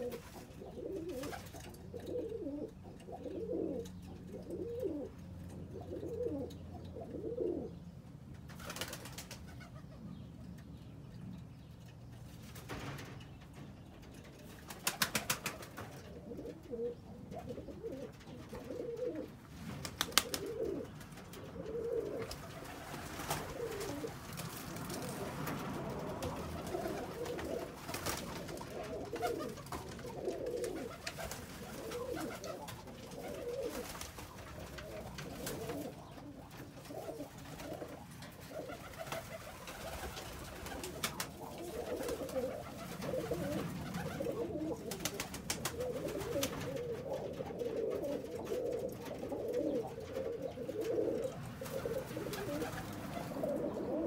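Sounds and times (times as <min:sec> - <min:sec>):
pigeons cooing: 0:00.0 - 0:10.3, 0:14.2 - 0:54.0.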